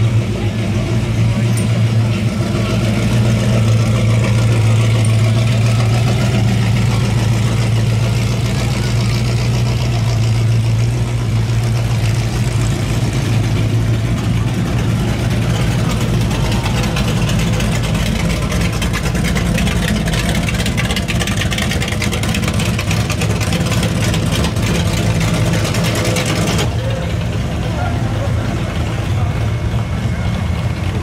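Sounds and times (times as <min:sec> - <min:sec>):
car engine low hum: 0:00.0 - 0:31.0
pulsing exhaust burble: 0:00.0 - 0:31.0.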